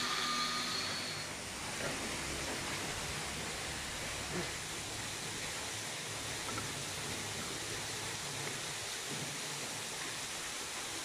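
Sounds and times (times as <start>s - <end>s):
water rushing down stone wall: 1.4s - 11.0s.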